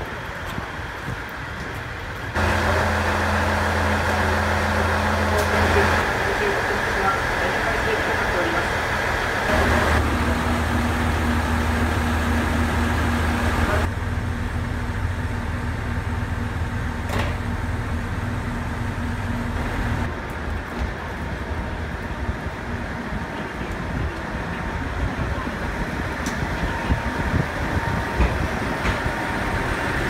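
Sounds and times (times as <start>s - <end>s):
diesel railcar engine idling: 0.0s - 30.0s.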